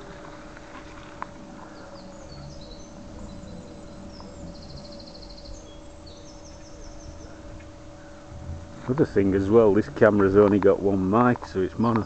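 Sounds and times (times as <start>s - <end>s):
low rumble: 0.0s - 11.2s
songbirds chirping: 0.0s - 12.0s
steady low hum: 0.0s - 12.0s.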